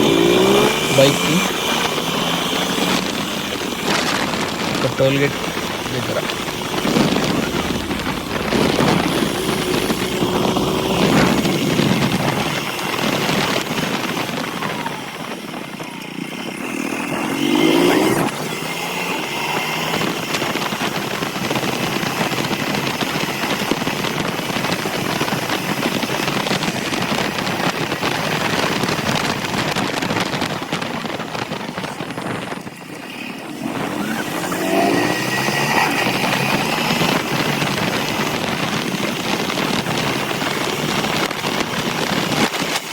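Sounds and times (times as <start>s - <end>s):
motorcycle engine accelerating: 0.0s - 42.9s
wind on microphone: 0.0s - 42.9s.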